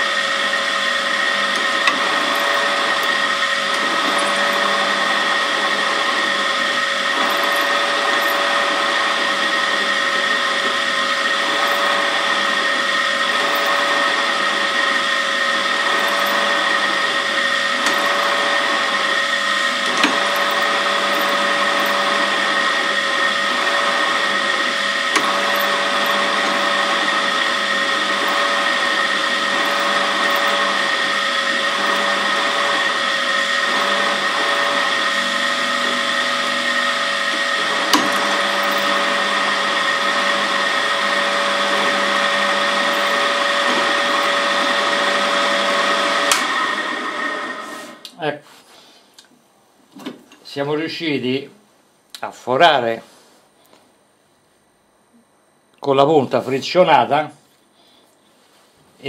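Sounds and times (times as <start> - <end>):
pillar drill whining into metal: 0.0 - 48.2.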